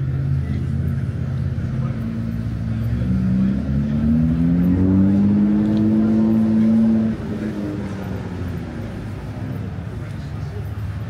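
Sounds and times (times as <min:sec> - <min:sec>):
vehicle engine accelerating past: 0:00.0 - 0:10.2
low traffic rumble: 0:00.0 - 0:11.0.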